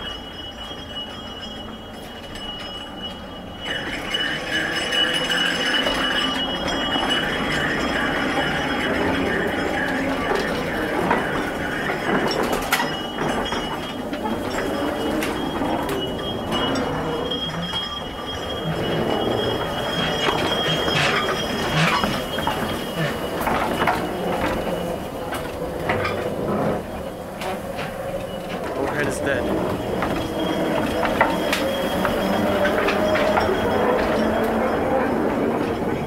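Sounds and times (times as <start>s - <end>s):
electric locomotive whine: 0.0s - 36.0s
wheels clicking on rail: 0.0s - 36.0s.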